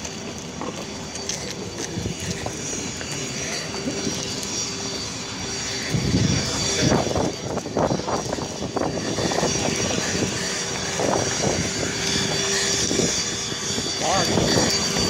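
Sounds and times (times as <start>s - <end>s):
high engine whine: 0.0s - 15.0s
small aircraft engines droning: 0.0s - 15.0s.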